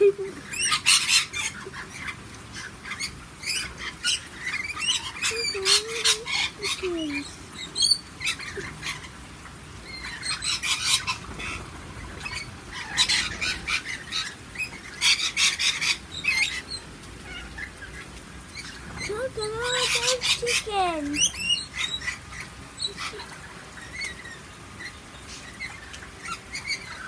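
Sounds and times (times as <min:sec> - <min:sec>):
lorikeets screeching and chattering: 0:00.0 - 0:27.0.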